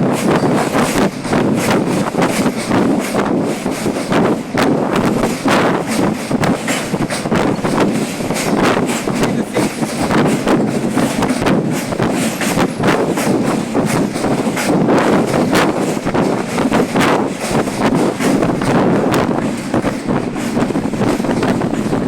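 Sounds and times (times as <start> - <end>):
train clanks and rattles: 0.0 - 22.0
train wheels rumbling on rails: 0.0 - 22.0.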